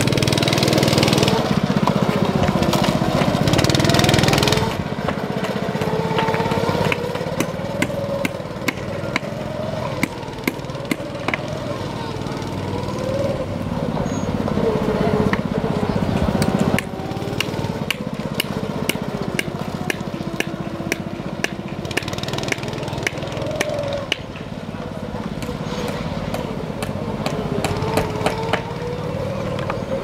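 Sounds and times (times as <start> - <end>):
go-kart engine running: 0.0 - 30.0.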